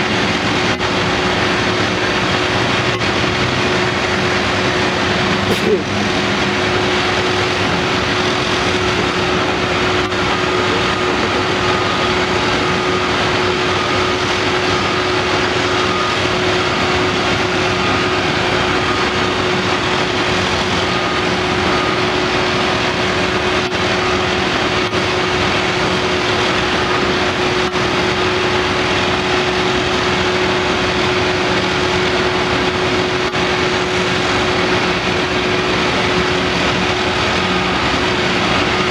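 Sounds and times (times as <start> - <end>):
constant whine: 0.0 - 38.9
excavator diesel engine: 0.0 - 38.9.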